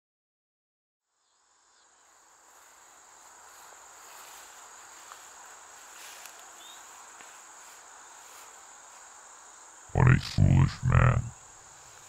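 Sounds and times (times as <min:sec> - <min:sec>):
field insects chirring: 0:01.1 - 0:12.0.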